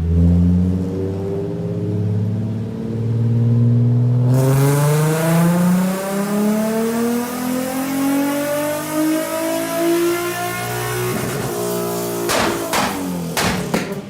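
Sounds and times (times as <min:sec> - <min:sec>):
car engine accelerating: 0:00.0 - 0:13.4.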